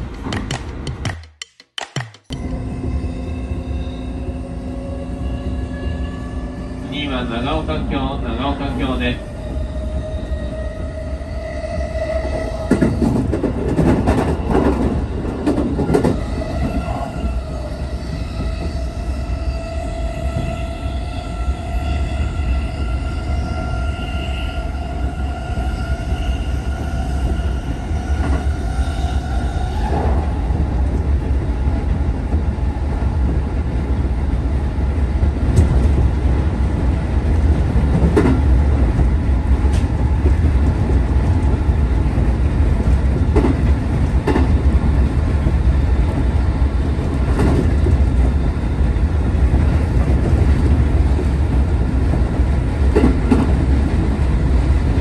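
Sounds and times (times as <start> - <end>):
train low rumble: 0.0 - 1.1, 2.3 - 55.0.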